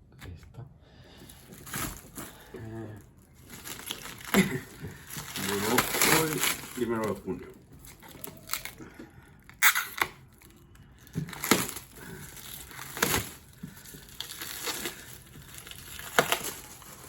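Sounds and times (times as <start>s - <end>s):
paper and plastic crackling: 1.3s - 17.0s.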